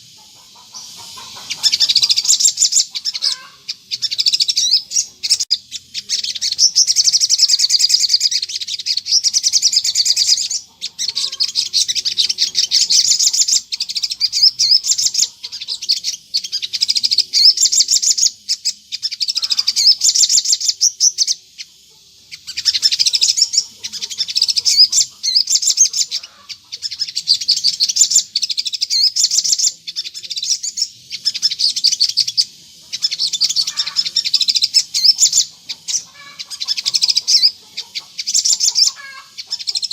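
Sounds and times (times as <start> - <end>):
songbird chattering: 0.0 - 39.9.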